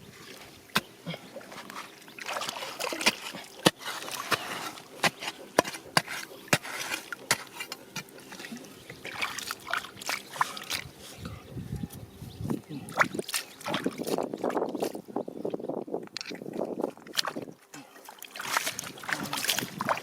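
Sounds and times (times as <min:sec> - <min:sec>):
water splashing and trickling: 0:00.0 - 0:11.4, 0:12.5 - 0:20.0.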